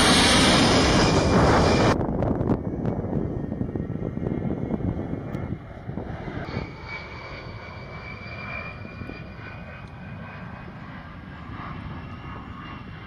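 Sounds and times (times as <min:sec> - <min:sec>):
jet aircraft roar with whine: 0:00.0 - 0:13.0.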